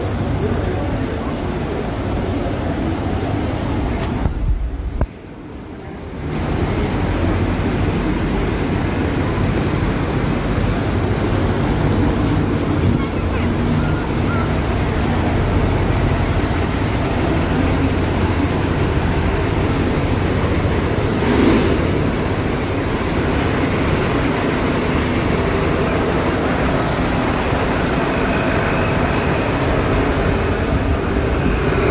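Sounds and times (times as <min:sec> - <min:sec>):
passing traffic rumble: 0:00.0 - 0:31.9.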